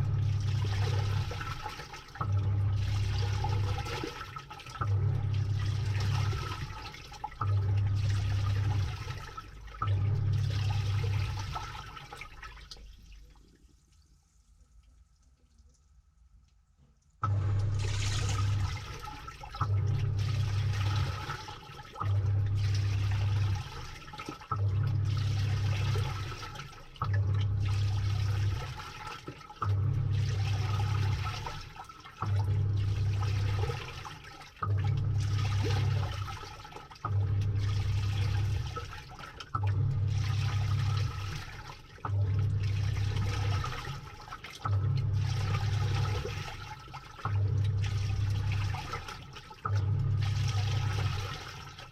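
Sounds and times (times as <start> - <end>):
washing machine motor humming: 0.0 - 13.1, 17.2 - 51.9
water and laundry churning: 0.0 - 15.6, 17.2 - 51.9.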